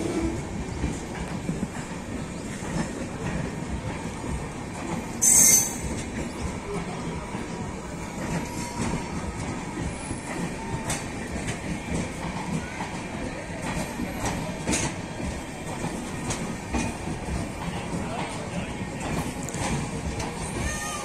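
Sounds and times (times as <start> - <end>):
rail joint clicks: 0.0 - 21.0
train wheels rumbling on rails: 0.0 - 21.0.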